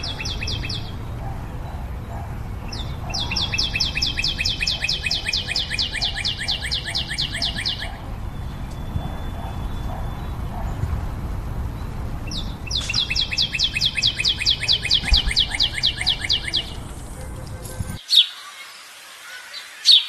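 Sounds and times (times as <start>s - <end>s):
bird trilling chirps: 0.0s - 10.8s, 11.7s - 20.0s.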